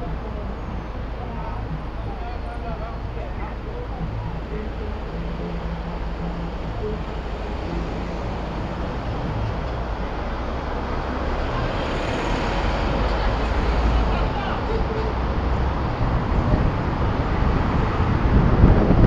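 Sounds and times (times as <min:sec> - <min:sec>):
car engine and tyre hum: 0:00.0 - 0:19.0
low rumble: 0:00.0 - 0:19.0
passing vehicles: 0:00.0 - 0:19.0.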